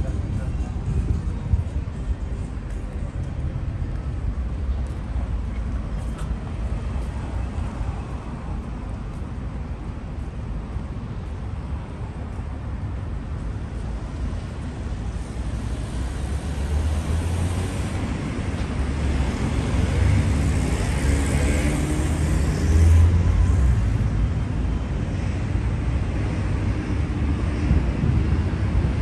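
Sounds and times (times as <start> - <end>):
rumble of road traffic: 0.0 - 29.0.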